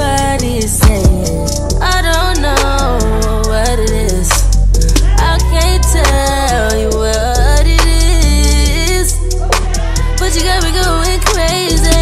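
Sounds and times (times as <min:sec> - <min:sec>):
heavy bass and percussion: 0:00.0 - 0:12.0
person singing: 0:00.0 - 0:12.0.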